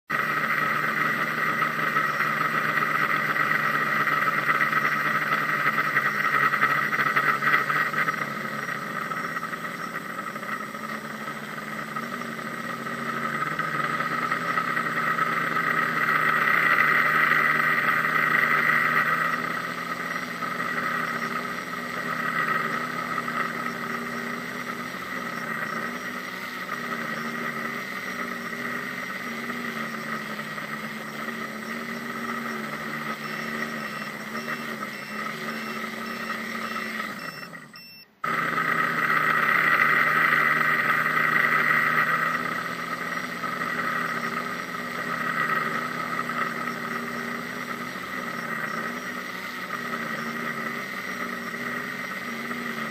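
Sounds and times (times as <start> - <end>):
drone motors and propellers whining: 0.1 - 52.9.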